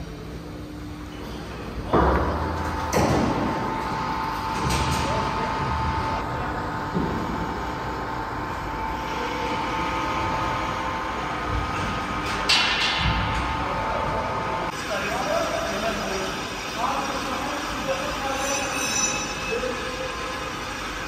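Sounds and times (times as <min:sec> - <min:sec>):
industrial machinery whine: 0:00.0 - 0:21.0.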